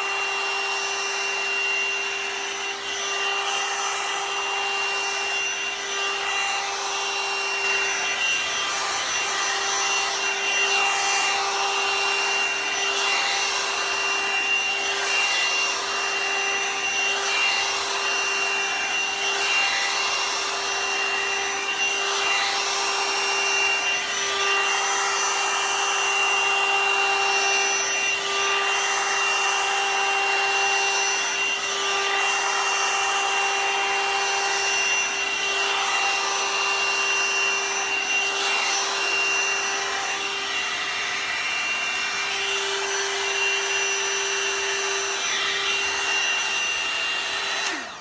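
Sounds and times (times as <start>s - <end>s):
hair dryer motor hum and whine: 0.0s - 48.0s.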